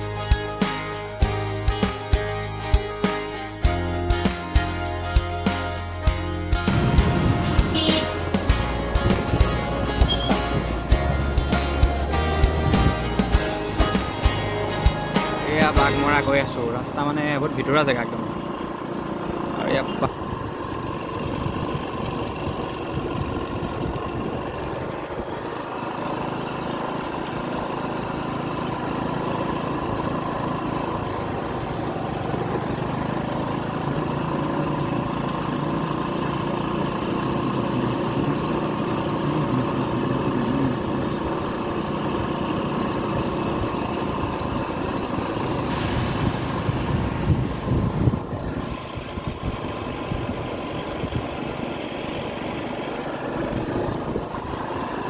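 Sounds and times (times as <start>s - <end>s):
road and wind noise: 0.0s - 55.0s
scooter engine running: 0.0s - 55.0s.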